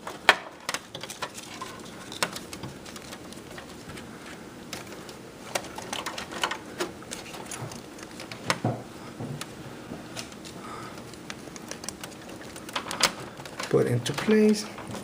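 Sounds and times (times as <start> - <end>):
cable rustling: 0.0 - 15.0.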